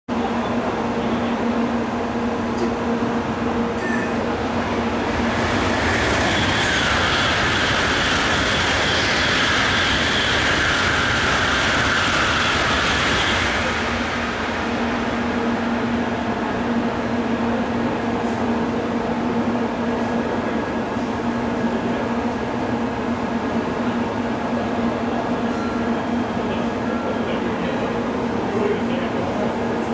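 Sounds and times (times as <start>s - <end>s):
high-speed train passing: 0.1s - 29.9s.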